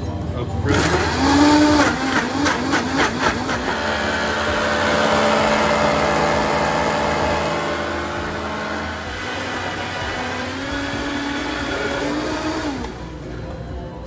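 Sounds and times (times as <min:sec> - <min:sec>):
blender motor whirring: 0:00.7 - 0:13.3.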